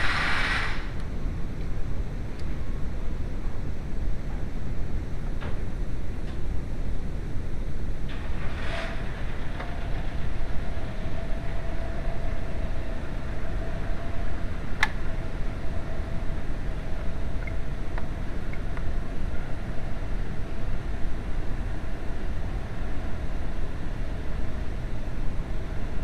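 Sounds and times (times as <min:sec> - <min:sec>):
faint steady whine: 0:00.0 - 0:26.0.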